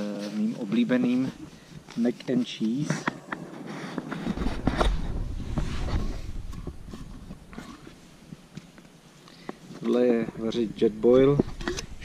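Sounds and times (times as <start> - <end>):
microphone handling rumble and rustling: 0.0 - 12.0.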